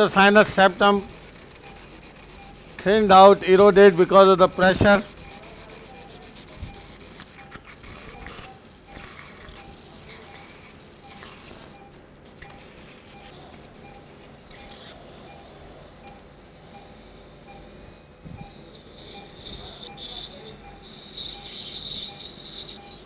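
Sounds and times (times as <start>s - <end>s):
surgical suction hissing: 0.0s - 14.7s, 18.7s - 23.0s
patient monitor beeping: 0.0s - 23.0s.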